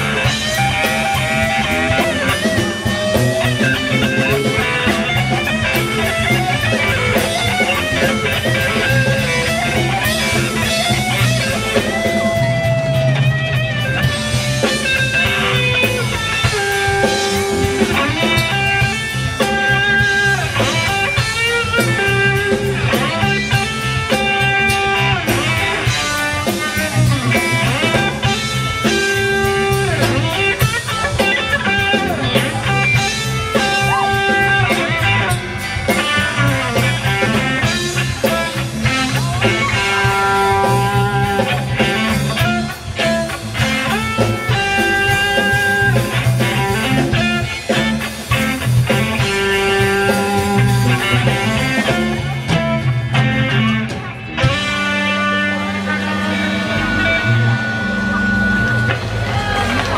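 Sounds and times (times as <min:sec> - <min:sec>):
bluesy electric guitar lead: 0:00.0 - 0:59.9.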